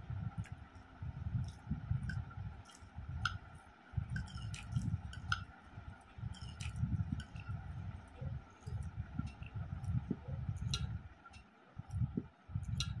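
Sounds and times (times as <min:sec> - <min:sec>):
soft chewing: 0:00.4 - 0:13.0.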